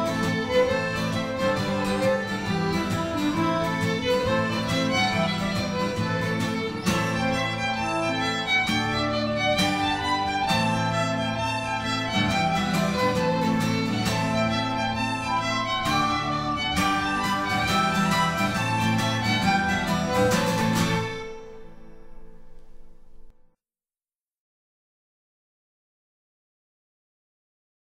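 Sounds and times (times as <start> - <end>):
fiddle jig: 0.0 - 23.3
guitar accompaniment: 0.0 - 23.4.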